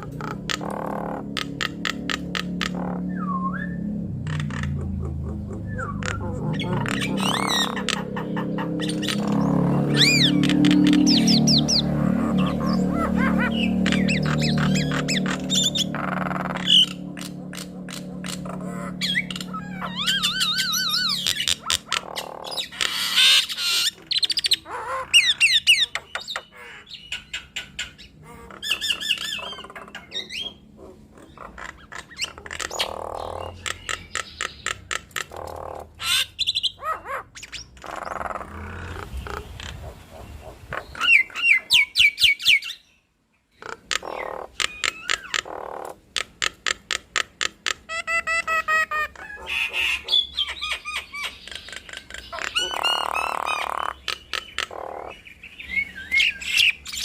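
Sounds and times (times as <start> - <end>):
mynas calling: 0.0 - 42.9, 43.5 - 57.0.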